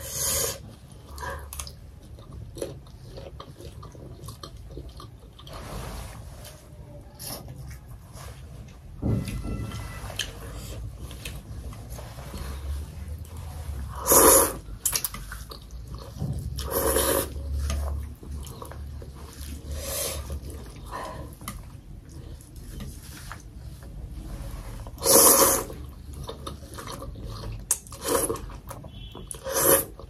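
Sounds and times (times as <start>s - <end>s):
noodles being slurped: 0.0s - 8.5s, 10.2s - 30.0s
quiet eating noises: 0.0s - 30.0s.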